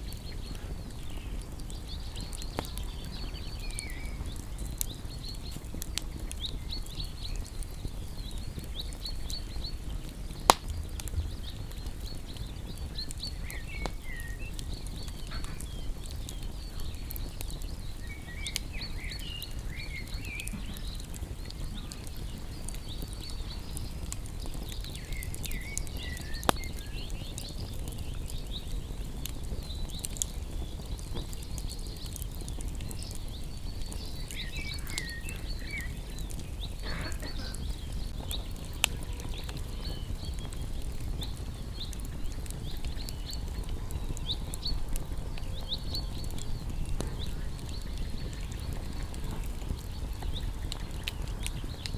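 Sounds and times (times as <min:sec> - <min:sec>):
small birds chirping: 0:00.0 - 0:51.9
wood fire crackling and popping: 0:00.0 - 0:51.9.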